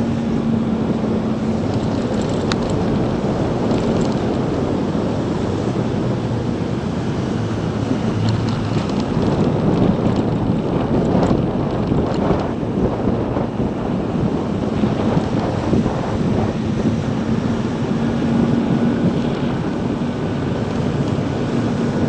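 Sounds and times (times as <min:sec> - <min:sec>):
motorcycle road rumble: 0:00.0 - 0:22.0
wind rushing over microphone: 0:00.0 - 0:22.0.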